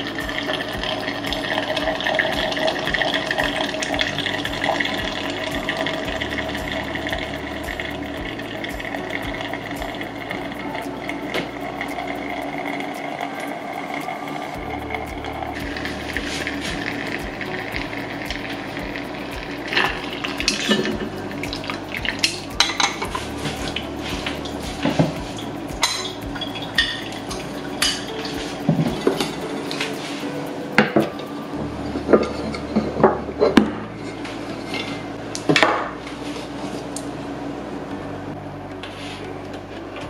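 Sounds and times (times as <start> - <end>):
utensils and tableware clinking: 0.0 - 36.4.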